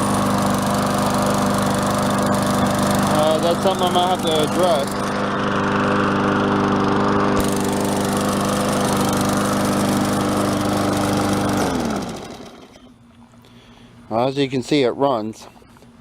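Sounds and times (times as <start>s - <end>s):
lawn mower engine running: 0.0s - 13.3s.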